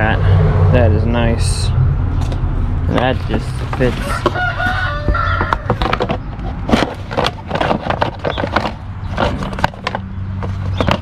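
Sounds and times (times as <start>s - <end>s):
plastic knocking and scraping: 2.2s - 11.0s.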